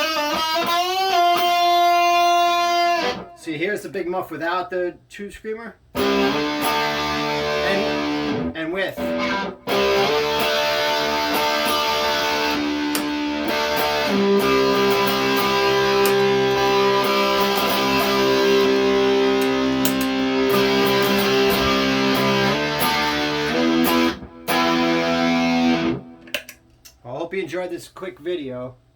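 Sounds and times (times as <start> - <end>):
distorted electric guitar: 0.0 - 3.4, 6.0 - 26.6.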